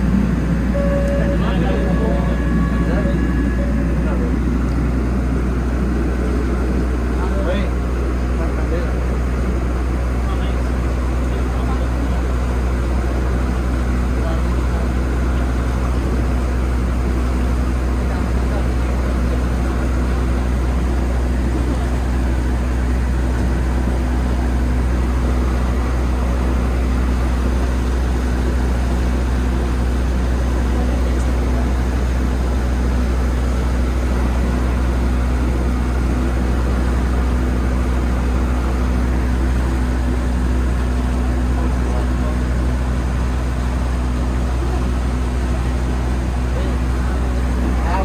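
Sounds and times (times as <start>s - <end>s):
boat engine droning: 0.0s - 48.0s
wind: 0.0s - 48.0s.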